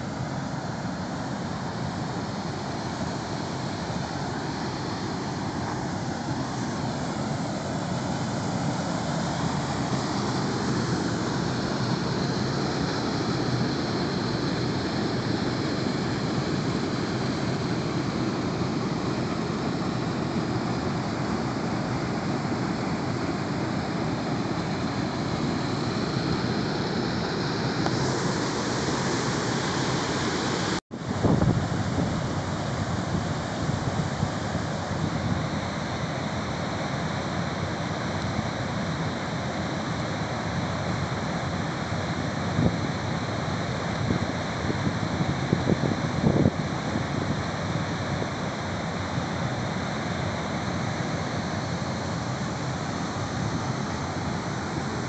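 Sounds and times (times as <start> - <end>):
waterfall rushing over rocks: 0.0 - 55.0.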